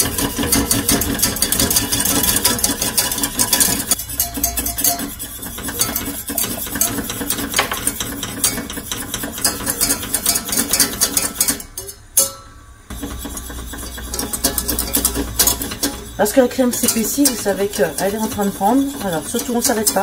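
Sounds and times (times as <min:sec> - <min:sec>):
whisk clinking against pan: 0:00.0 - 0:20.0.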